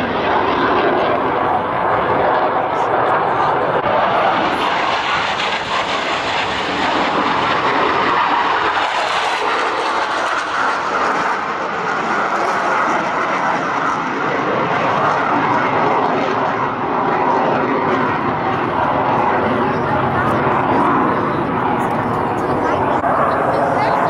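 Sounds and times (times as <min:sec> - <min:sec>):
jet roaring past: 0:00.0 - 0:24.0.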